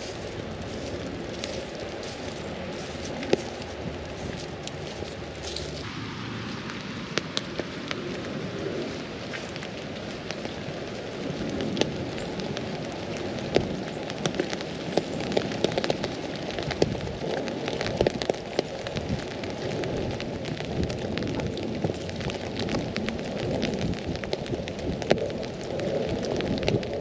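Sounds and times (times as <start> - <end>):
rain patter on umbrella: 0.0 - 27.0
steady rush of rain: 0.0 - 27.0.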